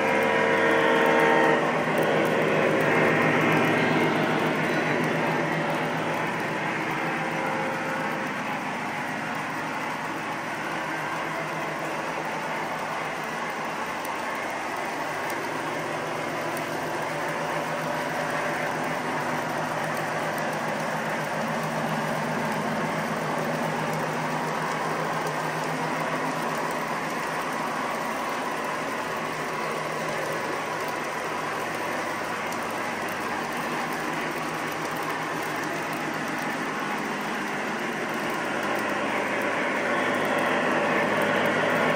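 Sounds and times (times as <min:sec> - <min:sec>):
model train wheels clattering on rail: 0:00.0 - 0:41.9.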